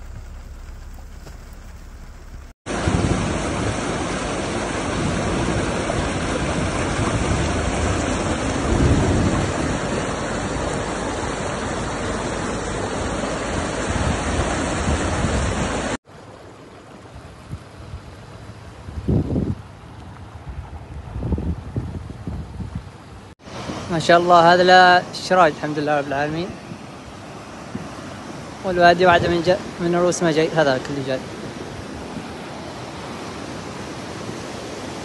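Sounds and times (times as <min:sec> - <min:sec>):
flood water roaring: 0:00.0 - 0:35.0.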